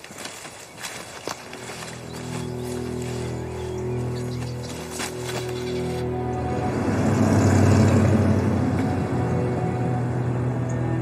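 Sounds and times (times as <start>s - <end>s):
drama score low held notes: 0.2s - 11.0s.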